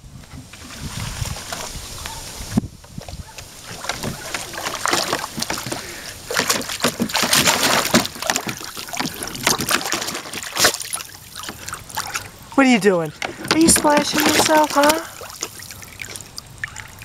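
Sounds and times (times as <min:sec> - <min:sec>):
dog splashing in water: 0:03.2 - 0:17.0.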